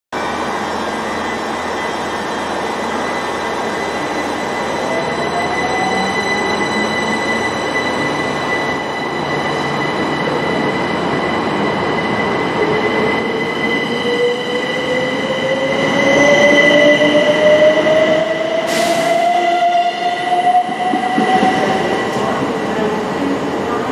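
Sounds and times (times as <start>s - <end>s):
electric trains passing: 0.2s - 23.9s.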